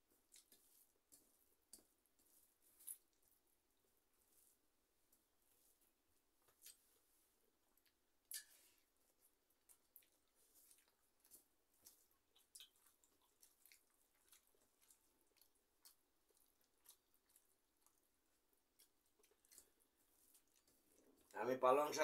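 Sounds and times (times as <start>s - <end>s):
fingers mixing rice on plates: 0.0s - 7.1s, 7.7s - 21.4s
chewing: 0.1s - 22.0s.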